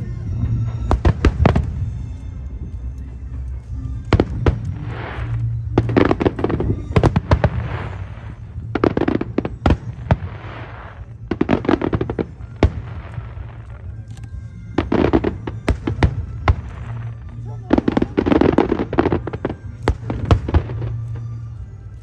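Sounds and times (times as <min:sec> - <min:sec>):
steady low rumble: 0:00.0 - 0:22.0
firework crackling hiss: 0:03.8 - 0:22.0.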